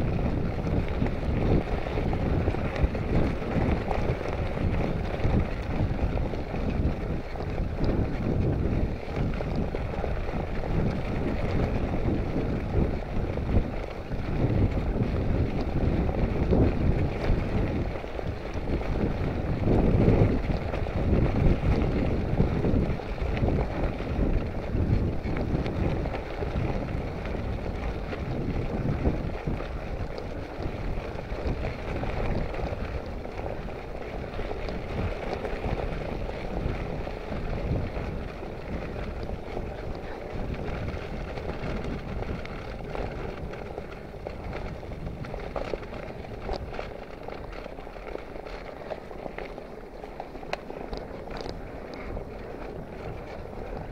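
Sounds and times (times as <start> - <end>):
wind buffeting the microphone: 0.0 - 53.9.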